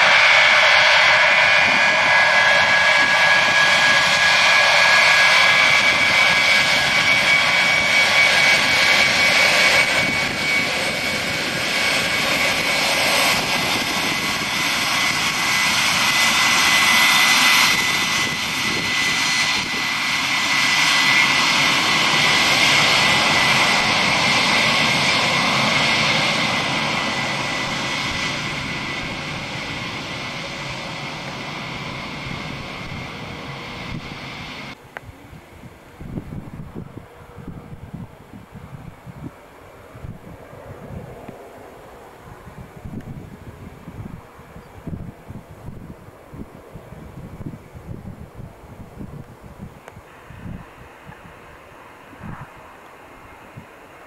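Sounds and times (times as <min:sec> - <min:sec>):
high steady jet whine: 0:00.0 - 0:54.0
jet engine roar: 0:00.0 - 0:54.0.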